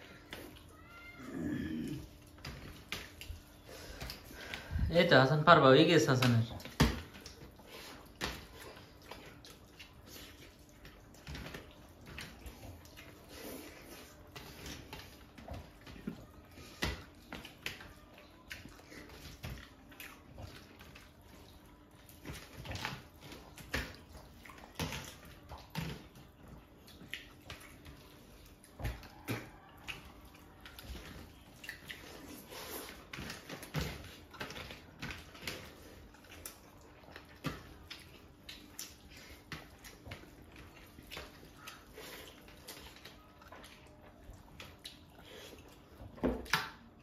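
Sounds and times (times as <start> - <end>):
chewing and lip smacks: 6.2 - 47.0.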